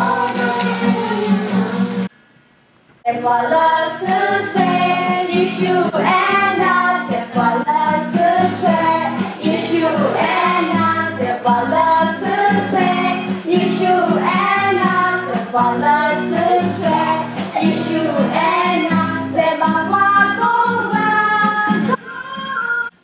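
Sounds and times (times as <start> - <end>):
children and women singing: 0.0 - 2.1, 3.1 - 23.0.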